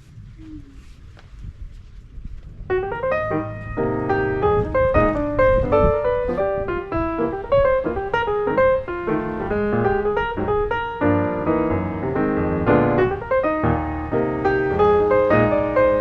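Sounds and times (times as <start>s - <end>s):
low bass line: 2.5s - 16.0s
piano run of notes: 2.7s - 16.0s.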